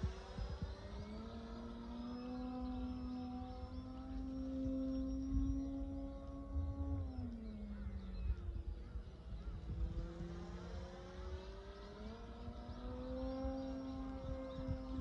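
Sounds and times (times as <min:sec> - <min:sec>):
model plane propeller whine: 0:00.0 - 0:15.0.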